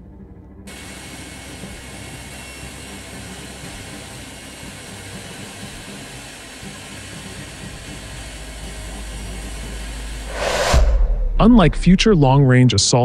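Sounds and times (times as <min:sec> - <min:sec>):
constant low hum: 0:00.0 - 0:05.1, 0:05.8 - 0:12.7
tiltrotor aircraft rotor noise: 0:00.7 - 0:12.6.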